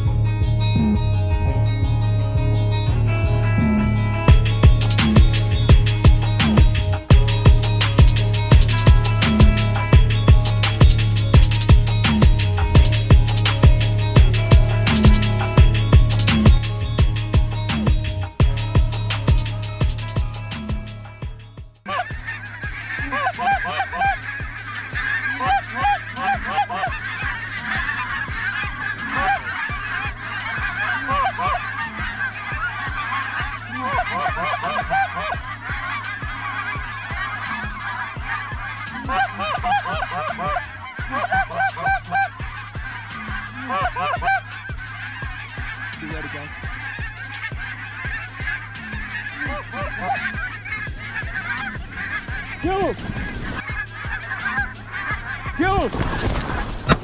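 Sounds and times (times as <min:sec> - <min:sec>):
geese honking in flight: 0:03.6 - 0:57.0.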